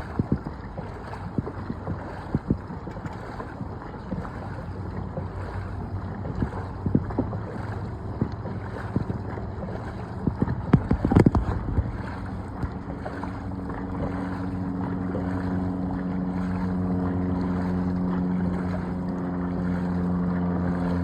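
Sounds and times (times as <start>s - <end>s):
motorboat engine running: 0.0s - 21.0s
water noise: 0.0s - 21.0s
wind: 0.0s - 21.0s.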